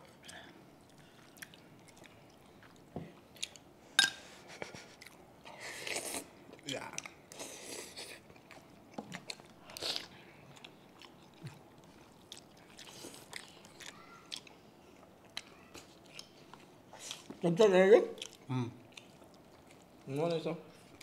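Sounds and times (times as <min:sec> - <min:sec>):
people chewing food: 0:00.0 - 0:21.0.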